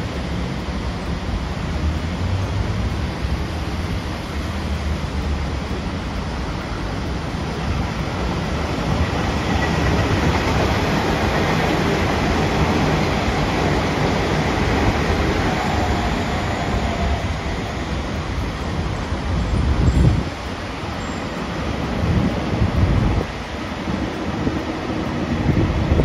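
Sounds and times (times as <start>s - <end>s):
train running past: 0.0s - 26.0s.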